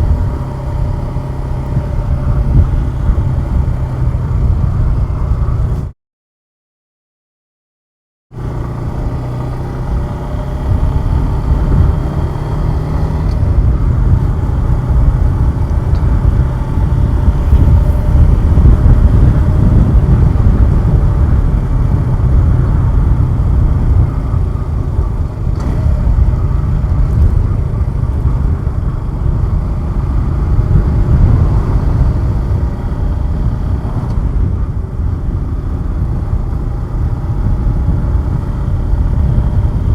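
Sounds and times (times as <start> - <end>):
motorcycle engine running: 0.0 - 5.9, 8.3 - 39.9
wind rush on microphone: 0.0 - 5.9, 9.0 - 39.9.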